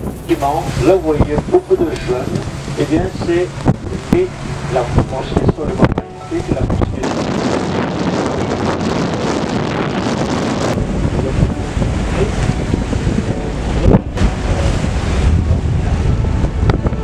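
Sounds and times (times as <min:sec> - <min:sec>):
choppy water washing: 0:00.0 - 0:17.0
low rumble: 0:00.0 - 0:17.0
wind buffeting microphone: 0:00.0 - 0:17.0.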